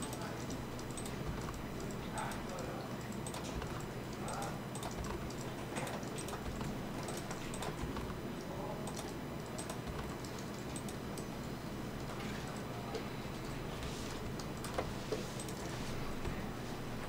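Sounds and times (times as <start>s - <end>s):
keyboard and mouse clicking: 0.0s - 8.2s, 8.8s - 11.3s, 12.0s - 16.3s.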